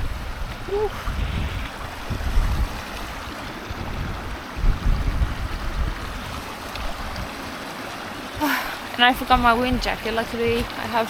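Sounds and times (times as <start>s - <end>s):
wind buffeting microphone: 0.0s - 7.7s, 8.3s - 11.0s
stream rushing: 0.0s - 11.0s.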